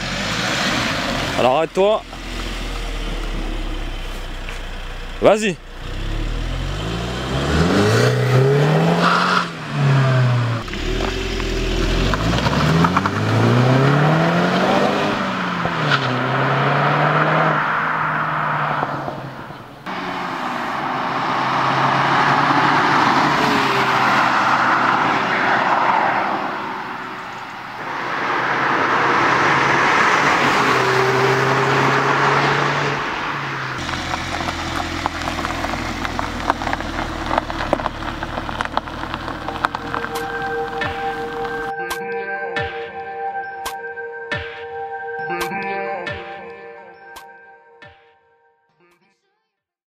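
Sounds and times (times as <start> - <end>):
car engine revving: 0.0 - 41.7.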